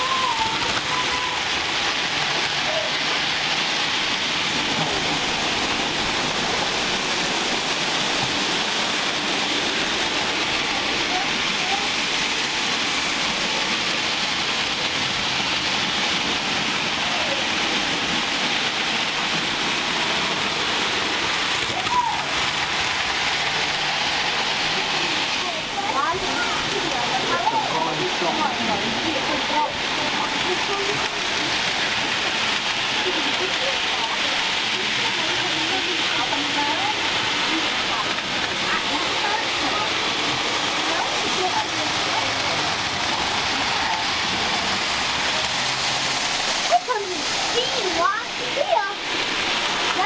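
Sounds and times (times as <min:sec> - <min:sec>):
faint voices: 0:00.0 - 0:50.0
model trains running on track: 0:00.0 - 0:50.0.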